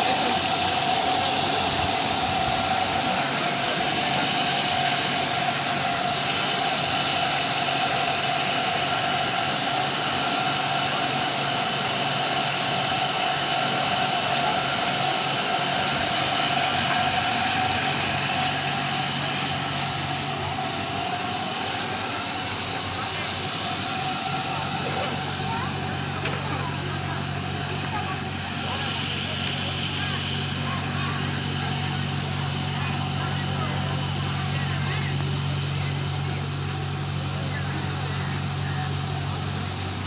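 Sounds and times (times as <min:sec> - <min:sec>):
mechanical drone with whine: 0:00.0 - 0:40.0.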